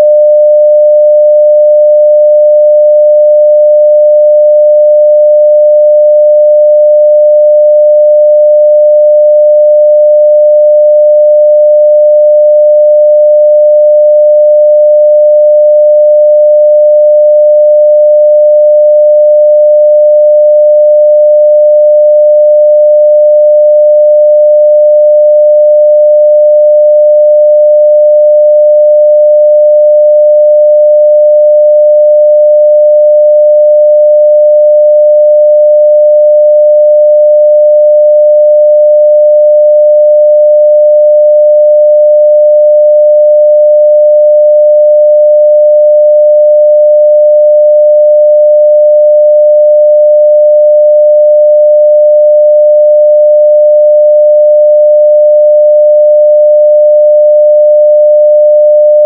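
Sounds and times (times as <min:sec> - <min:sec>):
sine wave test tone: 0:00.0 - 0:59.0.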